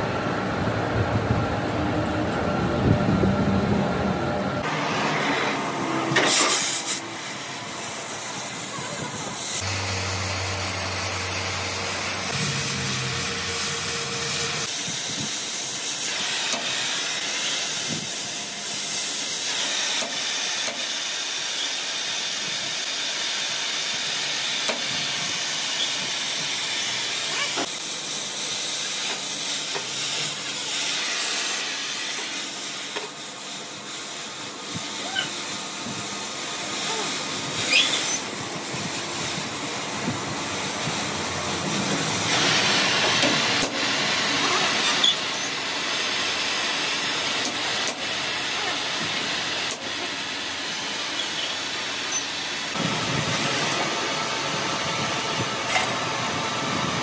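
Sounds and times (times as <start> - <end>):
gas torch flame hissing: 4.6 - 55.7.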